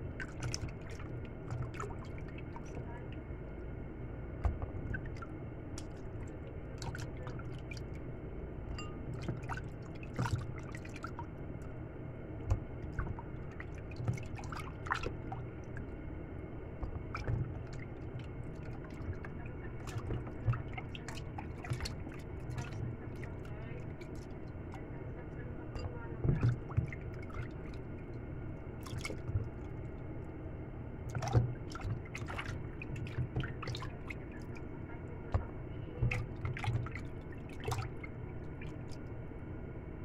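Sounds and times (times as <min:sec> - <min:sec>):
water sloshing and dripping: 0:00.0 - 0:39.4.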